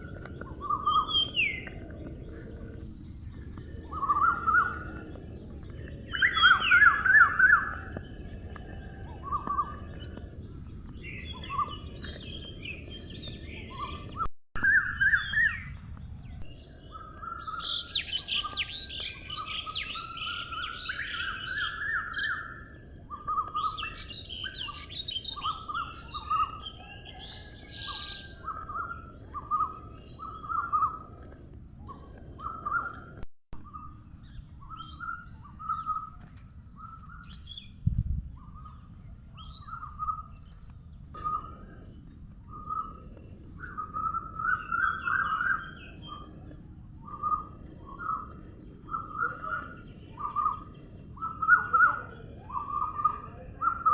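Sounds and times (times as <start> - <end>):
birds singing: 0.0 - 53.9.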